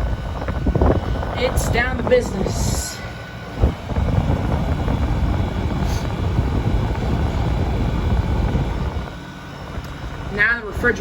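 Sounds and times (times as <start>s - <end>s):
loud fluctuating low rumble: 0.0s - 11.0s
window air conditioner running: 0.0s - 11.0s.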